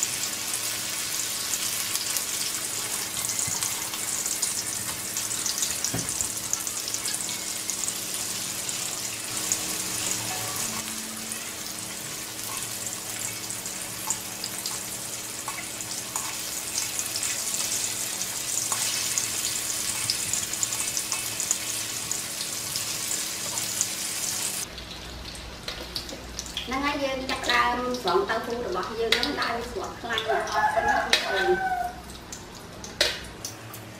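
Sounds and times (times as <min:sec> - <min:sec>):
tofu sizzling in hot oil: 0:00.0 - 0:33.4.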